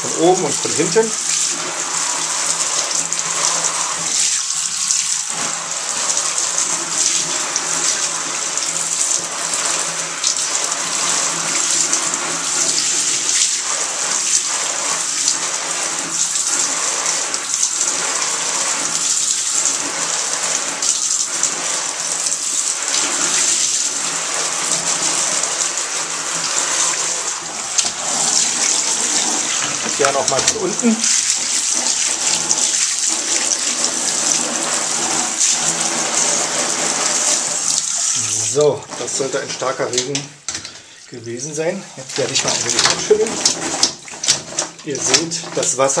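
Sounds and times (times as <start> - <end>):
water splashing off fabric: 0.0 - 39.7, 42.0 - 46.0
shower spray hissing: 0.0 - 40.4.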